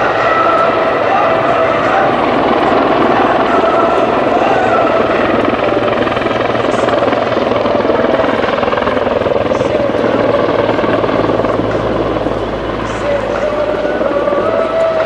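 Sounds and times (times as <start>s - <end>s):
helicopter rotor beat: 0.0s - 15.0s
turboshaft engine noise: 0.0s - 15.0s.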